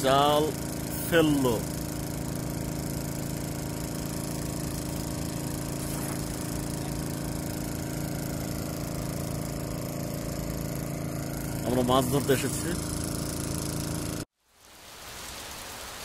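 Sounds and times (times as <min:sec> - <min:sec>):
small engine humming steadily: 0:00.0 - 0:14.3.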